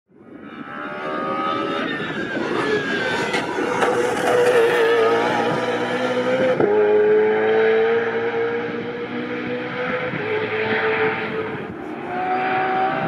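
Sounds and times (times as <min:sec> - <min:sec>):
racing car engine revving: 0:00.5 - 0:13.0.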